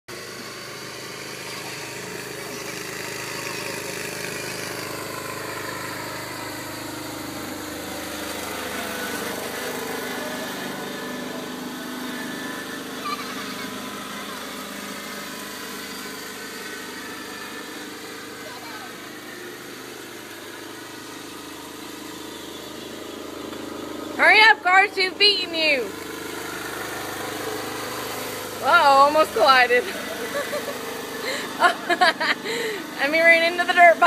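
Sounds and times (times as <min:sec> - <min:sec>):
ride-on toy motors humming: 0:00.1 - 0:34.0.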